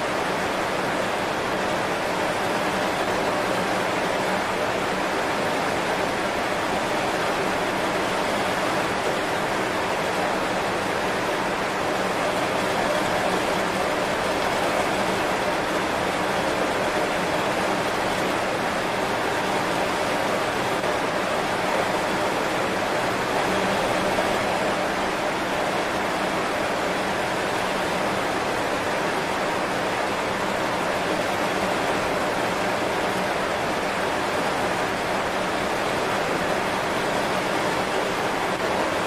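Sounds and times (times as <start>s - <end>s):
heavy rain on leaves: 0.0s - 39.0s.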